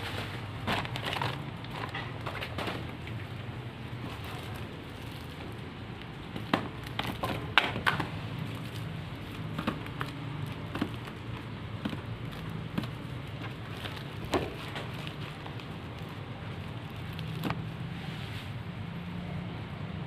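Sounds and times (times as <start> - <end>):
plastic-wrapped packs handled: 0.0 - 18.7.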